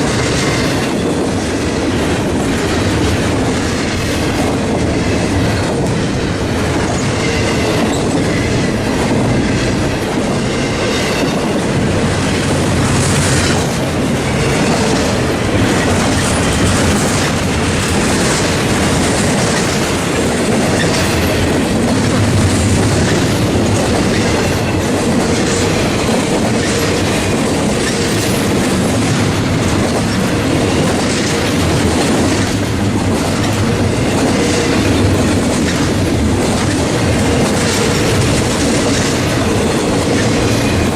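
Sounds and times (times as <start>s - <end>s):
freight train cars rolling: 0.0s - 40.9s
wheels clicking over rail joints: 0.0s - 40.9s.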